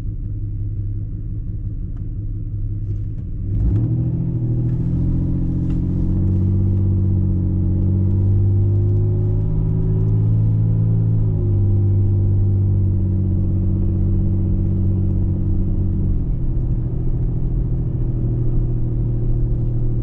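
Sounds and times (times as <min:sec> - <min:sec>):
car engine and road drone: 0:00.0 - 0:20.0.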